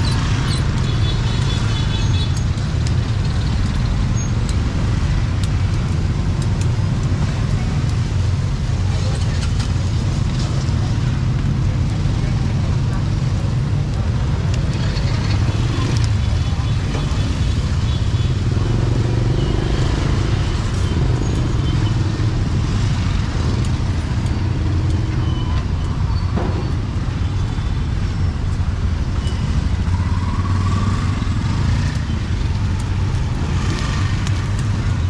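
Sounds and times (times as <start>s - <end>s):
general hubbub: 0.0s - 29.6s
low rumble of motor traffic: 0.0s - 35.0s.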